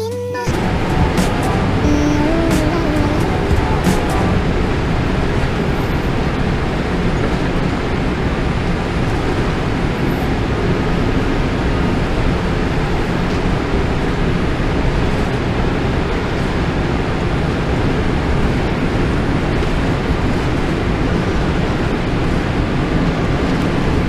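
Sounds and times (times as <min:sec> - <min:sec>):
airplane cabin engine noise: 0:00.4 - 0:24.0.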